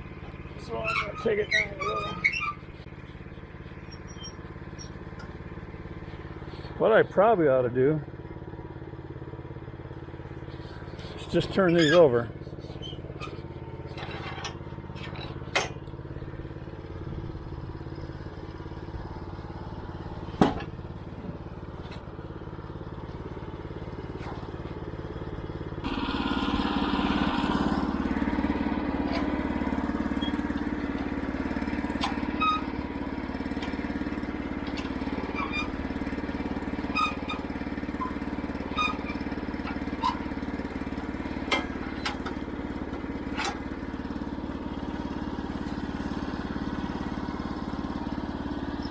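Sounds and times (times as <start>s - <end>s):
sawmill gas engine running: 0.0s - 48.9s.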